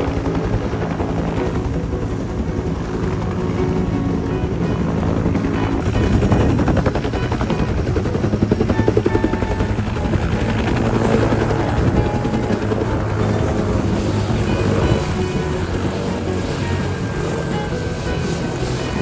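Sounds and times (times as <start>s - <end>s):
background music: 0.0s - 19.0s
helicopter engine running: 0.0s - 19.0s
rotor blades beating: 0.0s - 19.0s.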